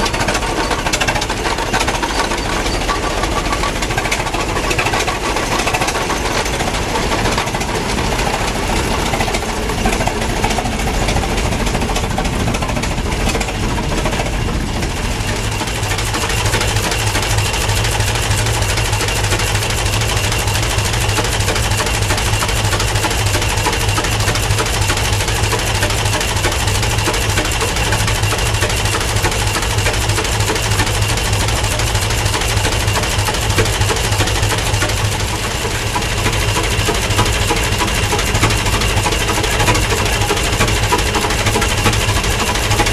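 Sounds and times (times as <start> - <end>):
tractor engine clattering: 0.0 - 42.9.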